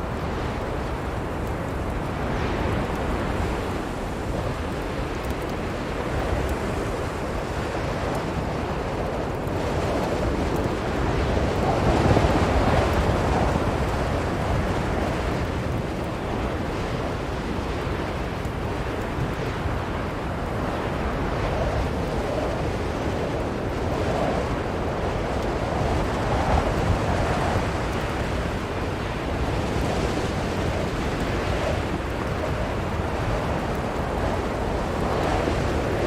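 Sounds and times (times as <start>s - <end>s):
blizzard wind blowing: 0.0s - 36.0s.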